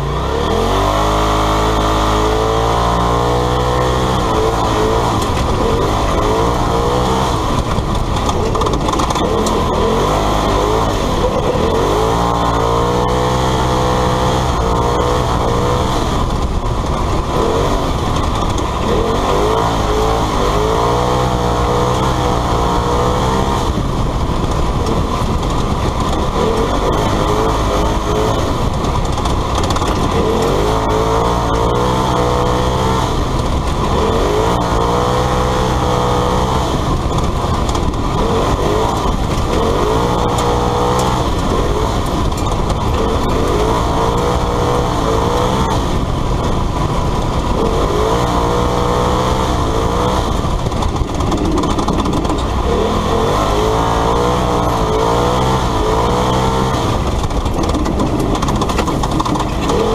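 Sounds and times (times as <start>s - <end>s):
car engine revving: 0.0s - 59.9s
tyres rushing on dirt road: 0.0s - 59.9s.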